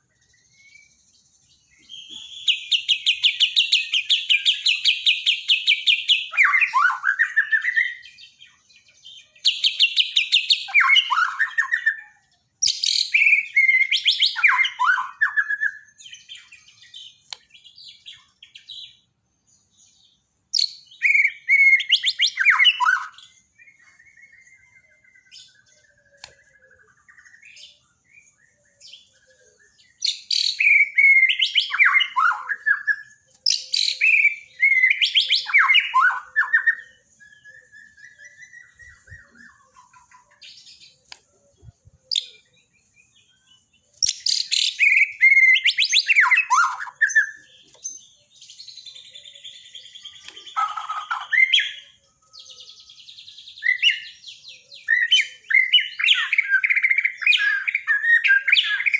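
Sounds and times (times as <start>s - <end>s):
soft bird twittering: 0.0s - 58.9s
bird singing whistled phrases: 0.2s - 19.0s, 19.8s - 58.9s.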